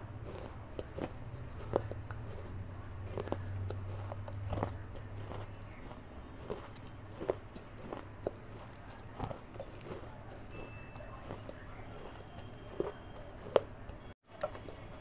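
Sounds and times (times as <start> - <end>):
chewing crunchy clay: 0.0 - 15.0
low steady hum: 0.0 - 15.0.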